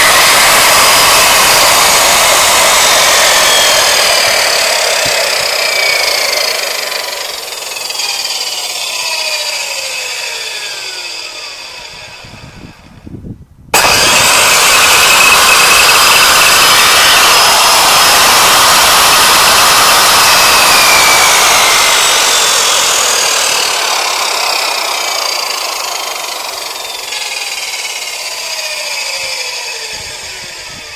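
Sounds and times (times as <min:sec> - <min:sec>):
motor winding down whine: 0:00.0 - 0:30.9
saw motor running: 0:00.0 - 0:30.9.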